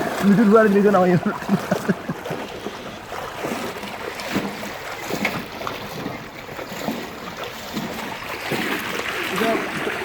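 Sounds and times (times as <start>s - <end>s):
floodwater sloshing and splashing: 0.0s - 10.0s.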